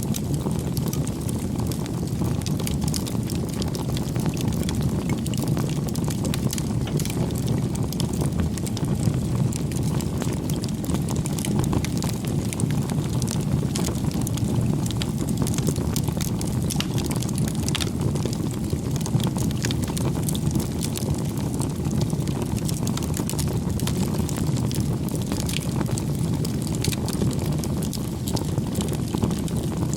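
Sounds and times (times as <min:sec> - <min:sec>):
burning wood crackling and popping: 0:00.0 - 0:29.9
rush of flames: 0:00.0 - 0:29.9.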